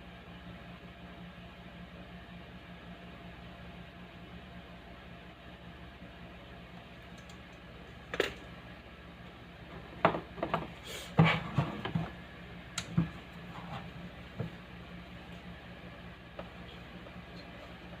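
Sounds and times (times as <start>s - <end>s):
loudspeaker electrical hum: 0.0s - 18.0s.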